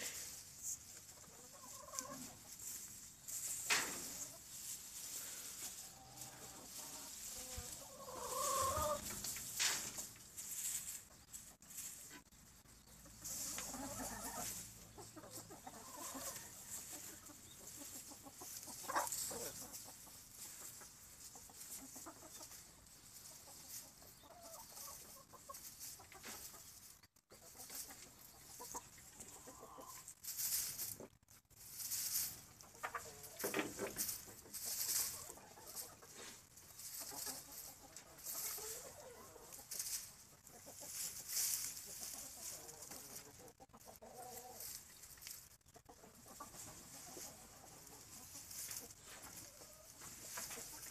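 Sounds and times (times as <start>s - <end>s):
dry straw rustling: 0.0s - 50.9s
hens clucking: 0.0s - 50.9s.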